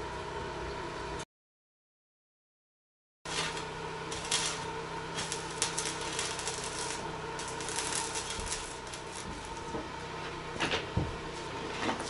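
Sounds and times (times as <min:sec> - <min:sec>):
mechanical hum: 0:00.0 - 0:01.2, 0:03.3 - 0:12.0.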